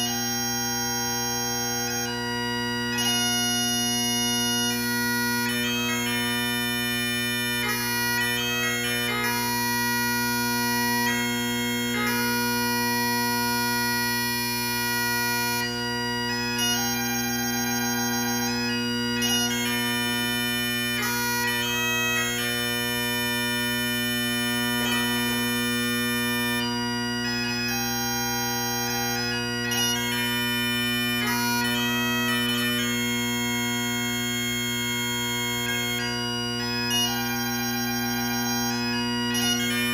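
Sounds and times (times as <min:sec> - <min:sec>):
bagpipes playing a melody: 0:00.0 - 0:39.9
low bagpipe drones: 0:00.0 - 0:39.9.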